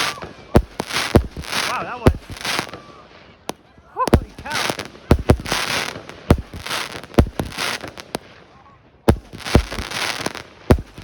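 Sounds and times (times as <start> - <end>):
firework crackling hiss: 0.0 - 2.8, 4.1 - 8.4, 9.1 - 11.0
firework bangs: 0.0 - 8.4, 9.1 - 11.0.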